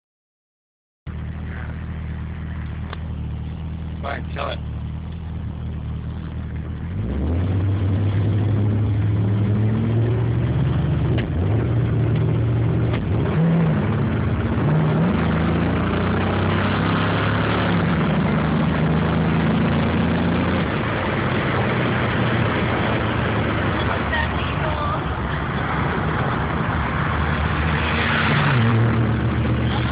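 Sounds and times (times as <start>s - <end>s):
car engine accelerating: 1.1s - 29.9s
road noise: 1.1s - 29.9s.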